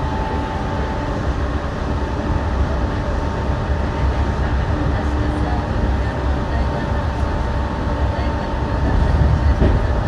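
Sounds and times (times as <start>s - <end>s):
train rumbling with faint whine: 0.0s - 10.0s.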